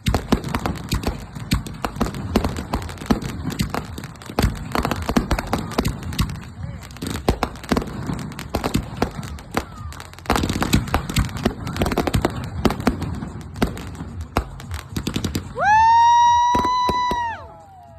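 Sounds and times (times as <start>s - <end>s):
firework bangs and crackles: 0.0s - 17.9s.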